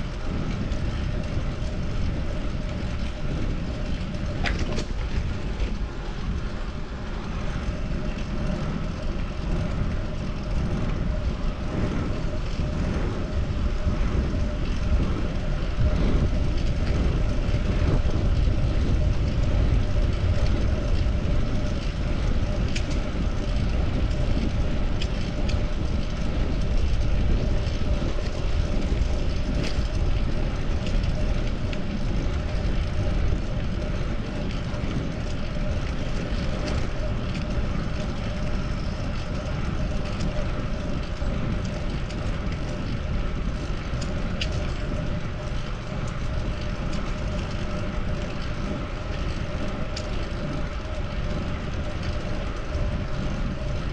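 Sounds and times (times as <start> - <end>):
faint steady hum: 0.0 - 53.9
wind and road rush: 0.0 - 53.9.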